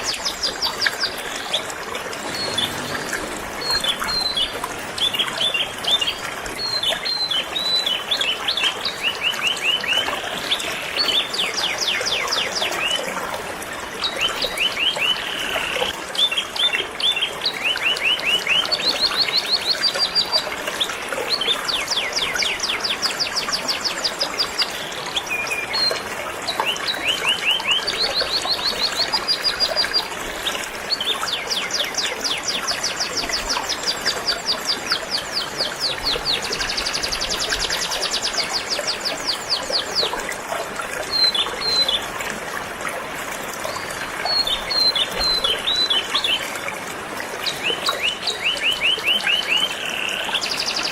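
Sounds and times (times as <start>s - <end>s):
flowing river water: 0.0s - 50.9s.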